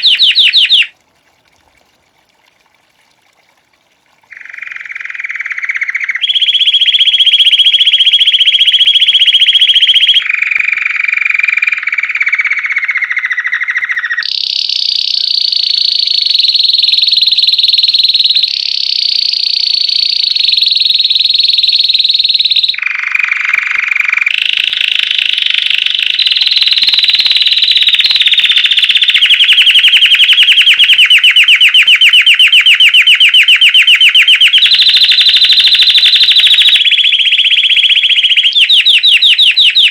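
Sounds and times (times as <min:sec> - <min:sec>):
canary singing trills: 0:00.0 - 0:00.9, 0:04.3 - 0:39.9.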